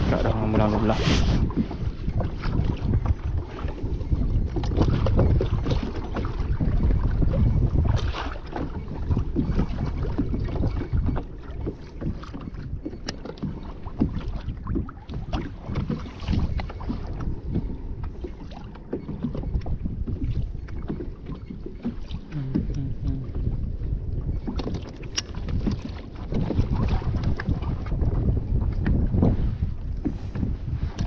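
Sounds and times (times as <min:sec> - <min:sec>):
waves slapping against kayak hull: 0:00.0 - 0:31.0
wind buffeting microphone: 0:00.0 - 0:31.0.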